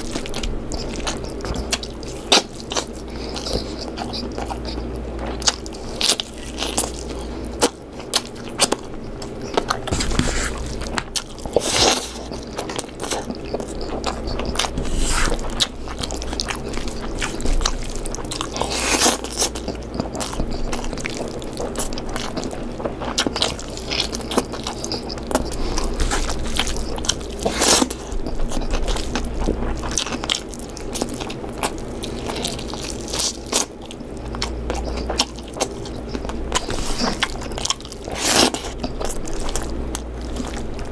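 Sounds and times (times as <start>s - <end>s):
low steady hum: 0.0s - 40.9s
person chewing food: 0.0s - 40.9s.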